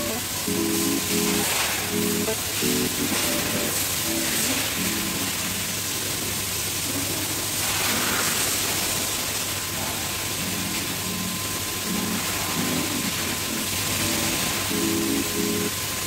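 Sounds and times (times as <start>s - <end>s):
pressure washer water spray: 0.0s - 16.0s
washer machinery hum: 0.0s - 16.0s.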